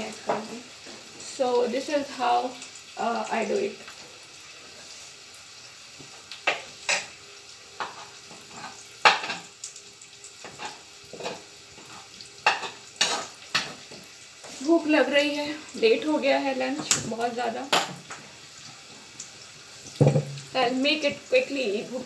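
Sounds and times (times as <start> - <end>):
onions sizzling in a pan: 0.0 - 22.0.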